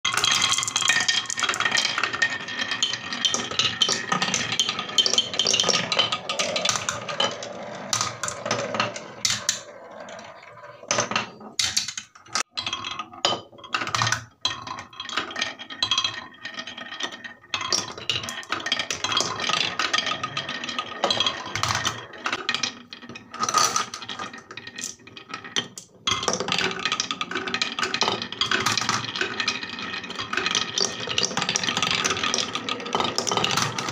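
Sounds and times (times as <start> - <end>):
marbles clattering on wooden tracks: 0.1 - 33.9.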